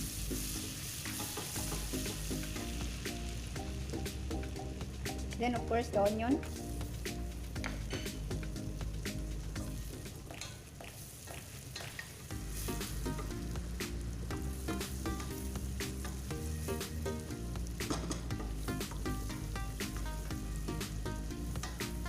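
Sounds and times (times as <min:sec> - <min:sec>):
onion sizzling in a pot: 0:00.0 - 0:22.0.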